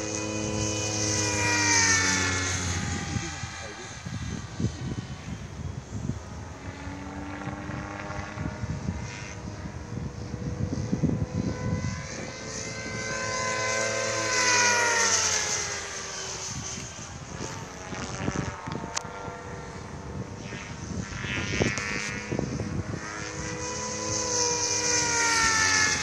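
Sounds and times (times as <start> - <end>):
model aircraft motor whine: 0.0 - 26.0
wind rumbling on microphone: 0.0 - 26.0.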